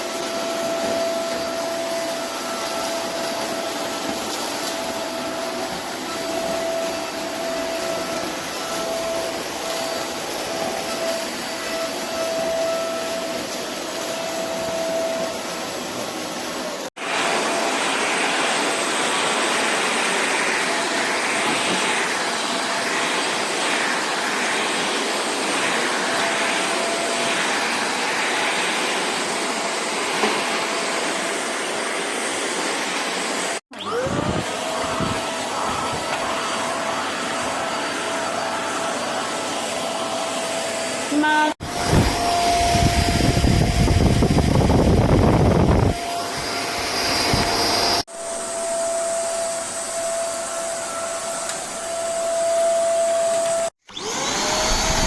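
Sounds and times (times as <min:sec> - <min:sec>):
vacuum cleaner motor whining: 0:00.0 - 0:55.0.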